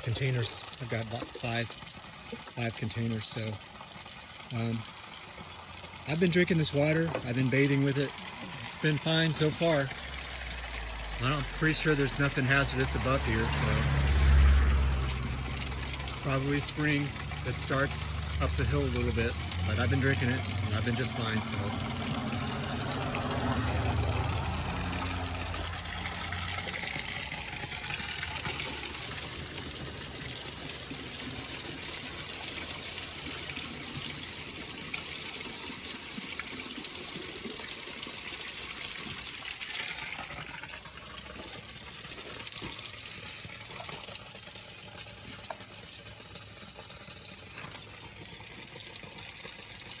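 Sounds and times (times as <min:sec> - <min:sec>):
water filling plastic containers: 0:00.0 - 0:50.0
waterfall splashing and pouring: 0:00.0 - 0:50.0.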